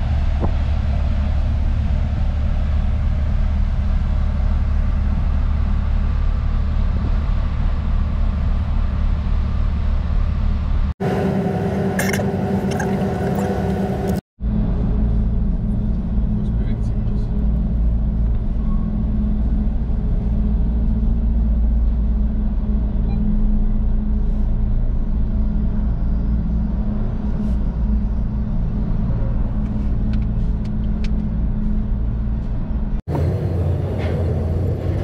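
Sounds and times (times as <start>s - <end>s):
idling engines rumble: 0.0s - 35.0s.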